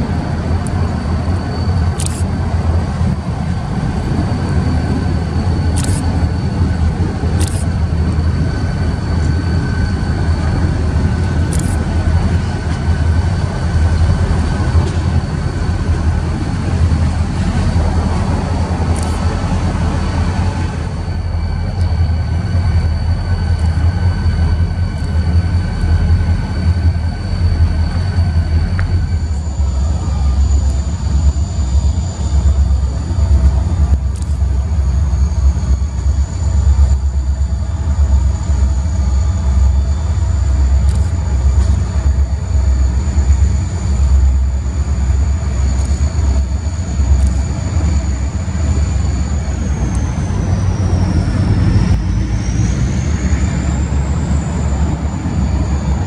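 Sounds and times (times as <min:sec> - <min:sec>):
diesel locomotive deep rumble: 0:00.0 - 0:56.0
high-pitched whine: 0:00.0 - 0:56.0.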